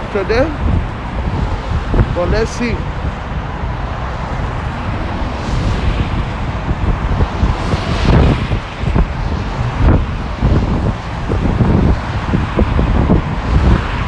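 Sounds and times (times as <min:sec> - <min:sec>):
traffic on wet street: 0:00.0 - 0:14.0
wind buffeting microphone: 0:00.0 - 0:14.0.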